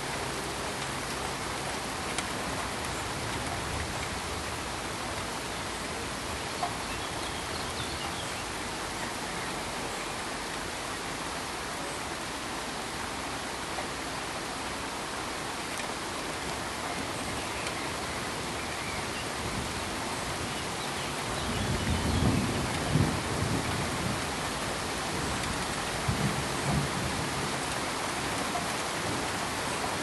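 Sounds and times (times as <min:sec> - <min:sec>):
pink noise hiss: 0:00.0 - 0:30.0.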